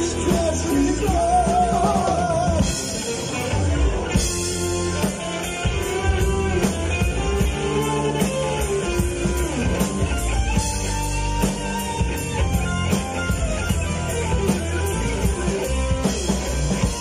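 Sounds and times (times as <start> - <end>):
bass guitar: 0.0 - 17.0
drum kit beat: 0.0 - 17.0
electric guitar: 0.0 - 17.0
keyboard: 0.0 - 17.0.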